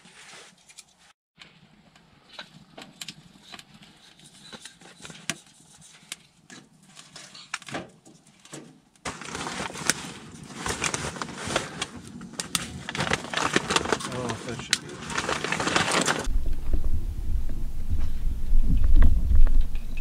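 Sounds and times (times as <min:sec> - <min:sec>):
wood fire crackling: 0:01.4 - 0:20.0.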